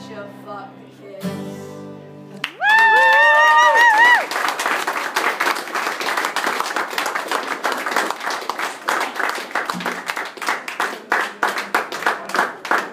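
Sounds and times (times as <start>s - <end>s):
audience applauding: 2.4s - 12.9s.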